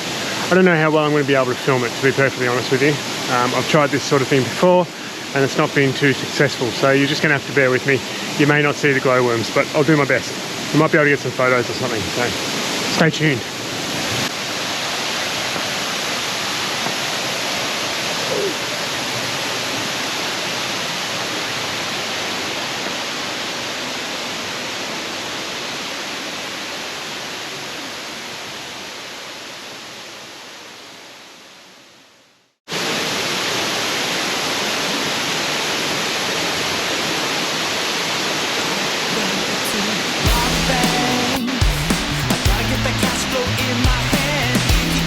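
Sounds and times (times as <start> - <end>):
waterfall rushing: 0.0 - 30.6, 32.7 - 45.0.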